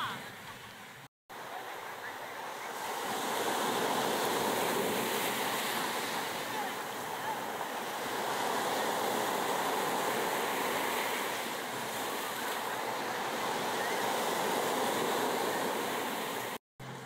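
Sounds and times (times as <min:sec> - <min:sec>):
ocean surf rushing: 0:00.0 - 0:17.0.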